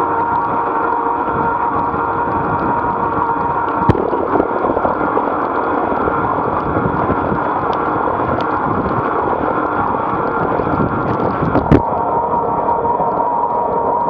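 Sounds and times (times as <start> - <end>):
bicycle road noise: 0.0 - 14.0
wind rushing over microphone: 1.2 - 14.0.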